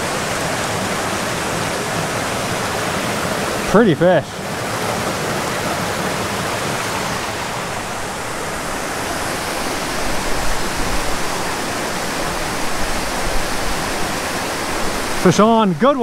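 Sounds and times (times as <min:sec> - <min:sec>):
creek rushing over boulders: 0:00.0 - 0:16.0.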